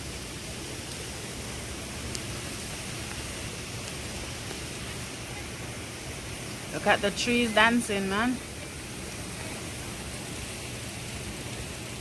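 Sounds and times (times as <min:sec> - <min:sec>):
rain: 0:00.0 - 0:12.0.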